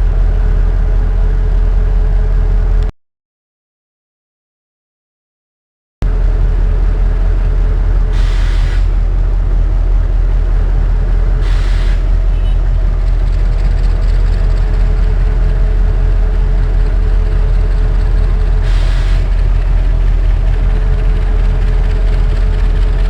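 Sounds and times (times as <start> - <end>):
train rumbling: 0.0 - 2.9, 6.0 - 23.0.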